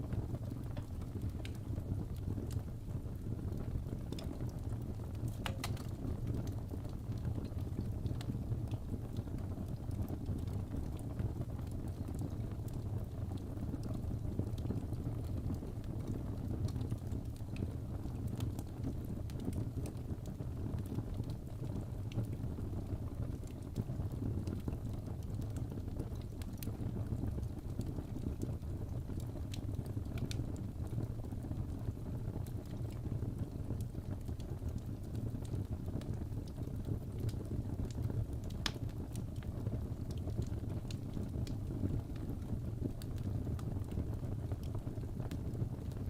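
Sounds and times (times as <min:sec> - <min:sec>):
fire crackles and pops: 0:00.0 - 0:46.0
wood fire burning: 0:00.0 - 0:46.0.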